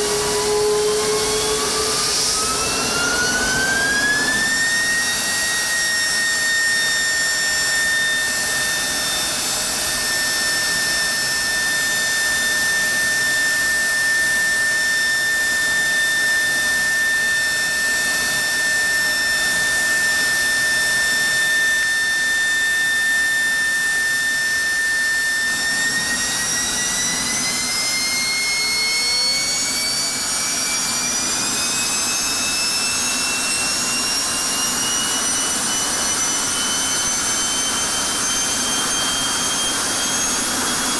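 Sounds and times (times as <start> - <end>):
jet engine roar and whine: 0.0 - 40.9.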